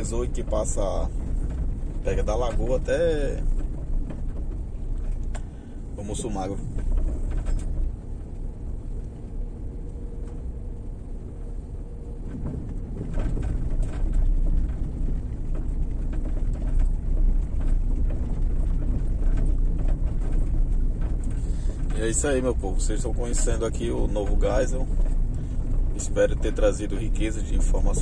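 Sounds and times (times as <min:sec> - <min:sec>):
vehicle rumbling: 0:00.0 - 0:28.0.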